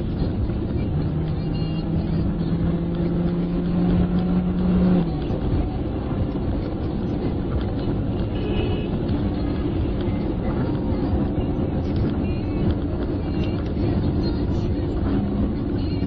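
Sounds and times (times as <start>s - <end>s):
car engine accelerating: 0.0s - 16.0s
road rumble: 0.0s - 16.0s.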